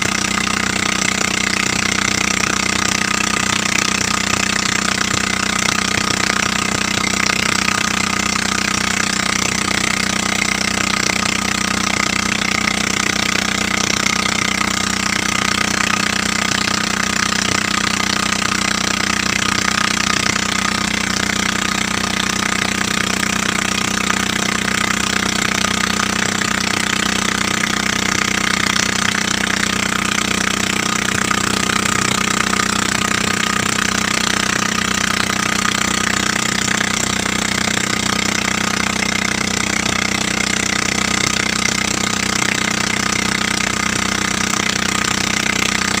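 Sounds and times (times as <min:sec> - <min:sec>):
motorboat engine running: 0:00.0 - 0:46.0
water rushing past hull: 0:00.0 - 0:46.0.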